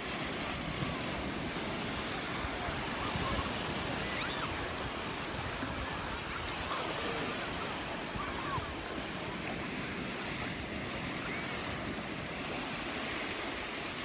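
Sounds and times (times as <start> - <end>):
waves washing onto beach: 0.0 - 14.0.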